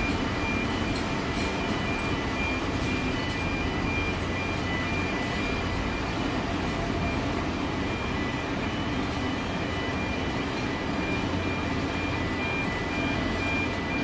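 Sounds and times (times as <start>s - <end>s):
diesel machinery droning: 0.0s - 14.0s
faint high beeps: 0.0s - 14.0s.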